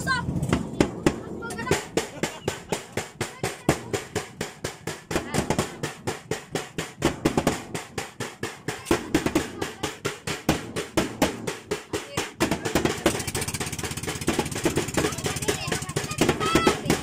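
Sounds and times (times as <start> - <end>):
hand percussion with tambourine: 0.6 - 17.0.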